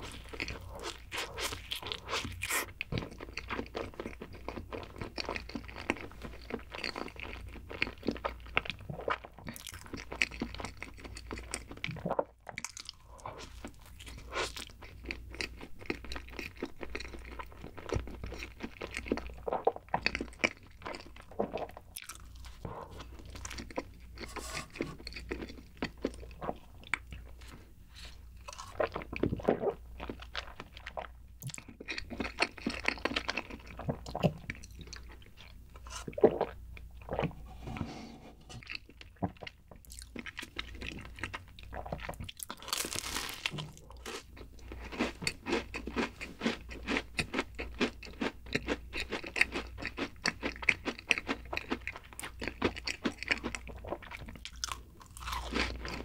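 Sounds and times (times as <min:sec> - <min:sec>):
chewing a sandwich: 0:00.0 - 0:37.5, 0:38.4 - 0:56.0.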